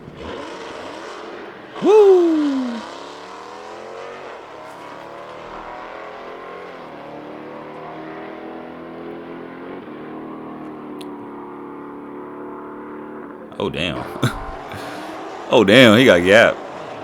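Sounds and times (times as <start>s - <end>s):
drag racing car engines: 0.0s - 14.2s, 14.8s - 17.0s.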